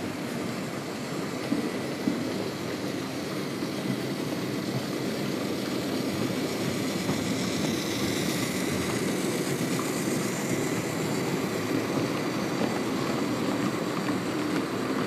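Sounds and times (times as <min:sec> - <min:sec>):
model trains rumbling on track: 0:00.0 - 0:15.0.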